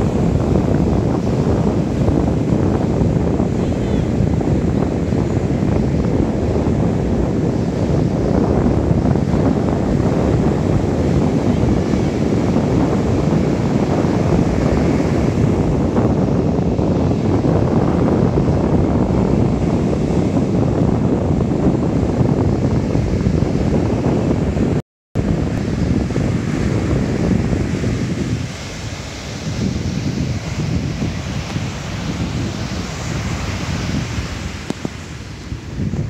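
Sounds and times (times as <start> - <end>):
surf breaking on beach: 0.0 - 36.0
wind buffeting microphone: 0.0 - 36.0.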